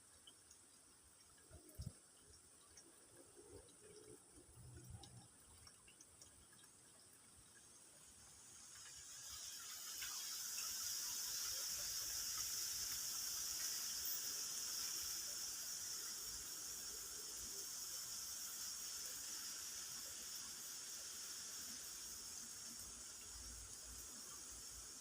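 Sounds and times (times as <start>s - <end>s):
insect chorus hiss: 0.0s - 25.0s.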